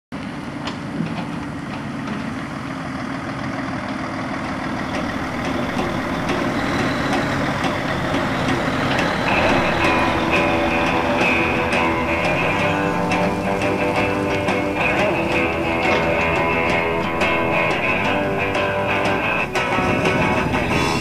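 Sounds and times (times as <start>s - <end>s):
truck diesel engine passing: 1.4s - 21.0s.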